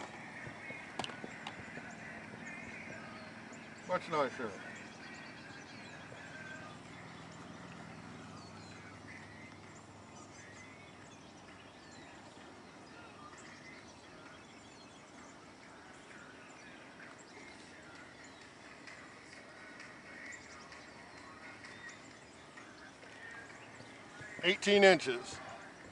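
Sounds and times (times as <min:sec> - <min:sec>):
birds chirping and calling: 0:00.0 - 0:25.9.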